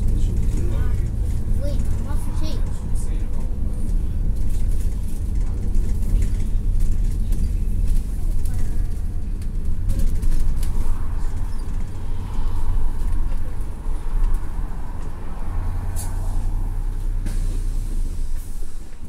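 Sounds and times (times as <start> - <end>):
bus engine and road rumble: 0.0 - 19.0
light rattles: 0.0 - 19.0.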